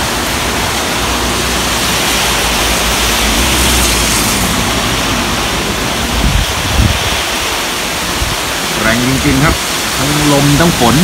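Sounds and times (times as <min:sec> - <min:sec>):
heavy rain pouring: 0:00.0 - 0:11.0
wind buffeting microphone: 0:00.3 - 0:09.6.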